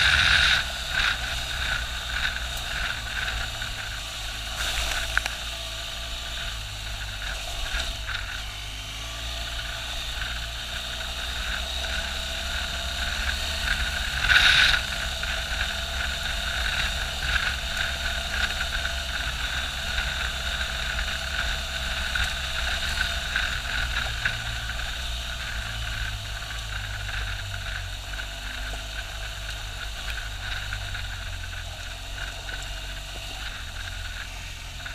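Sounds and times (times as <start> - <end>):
motorcycle engine running: 0.0 - 34.9
tyres on gravel: 0.0 - 34.9.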